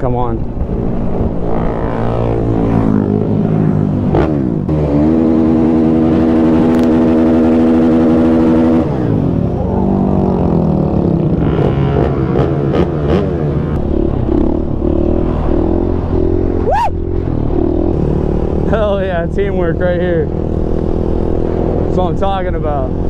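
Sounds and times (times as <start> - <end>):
motorcycles idling and revving: 0.0 - 23.0.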